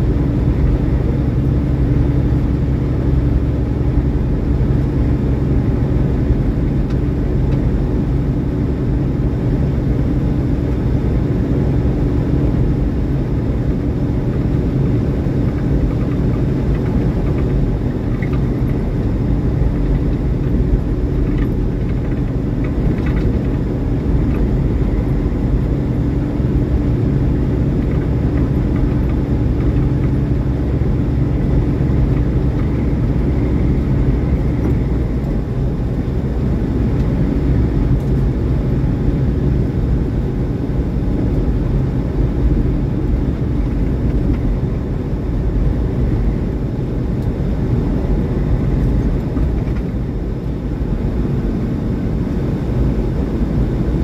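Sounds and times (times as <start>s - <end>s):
truck diesel engine rumble: 0.0s - 54.0s.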